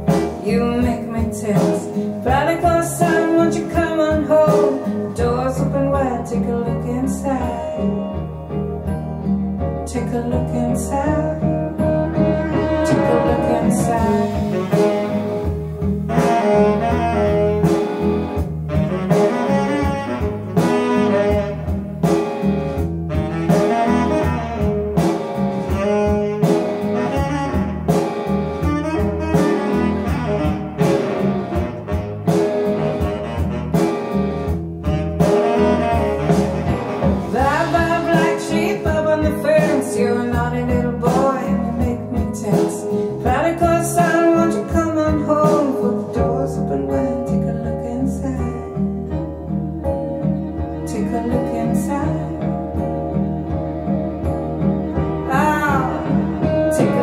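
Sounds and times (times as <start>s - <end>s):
pop-rock song over loudspeakers: 0.0s - 57.0s.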